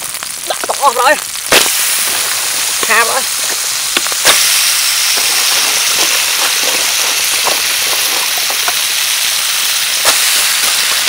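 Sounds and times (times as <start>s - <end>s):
crabs sizzling in a wok: 0.0s - 11.0s
sharp crack: 0.0s - 11.0s.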